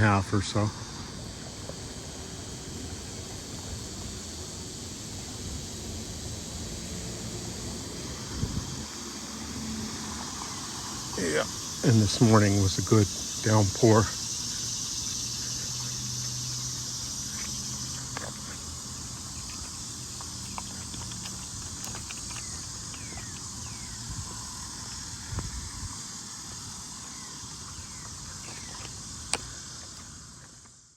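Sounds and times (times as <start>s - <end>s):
cicadas buzzing in chorus: 0.0s - 30.9s.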